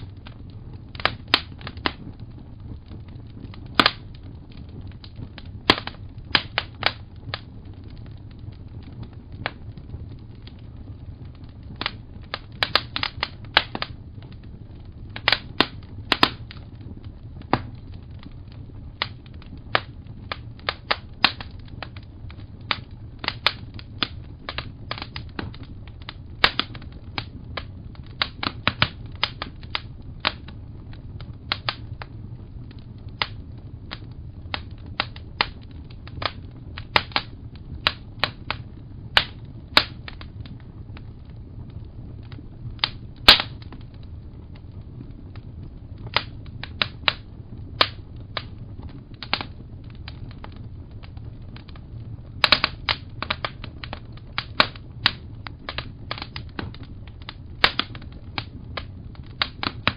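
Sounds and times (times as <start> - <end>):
low rumble: 0.0 - 59.9
wood fire crackling and popping: 0.0 - 59.9.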